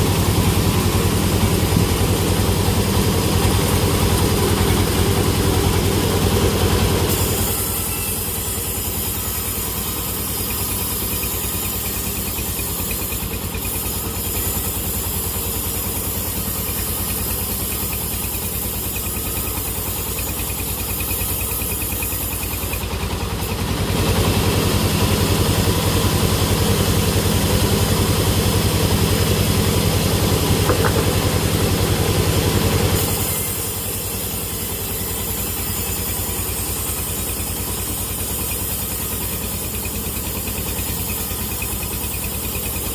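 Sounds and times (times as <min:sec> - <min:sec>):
sawmill machinery engine running: 0:00.0 - 0:42.9.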